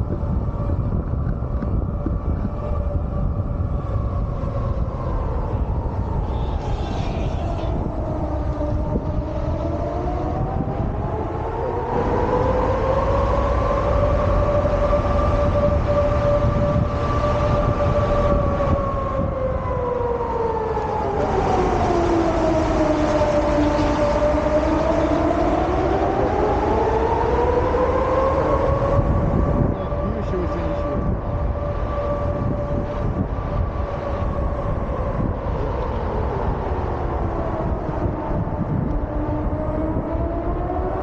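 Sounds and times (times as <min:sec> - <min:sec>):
warning siren wailing: 0:00.0 - 0:41.0.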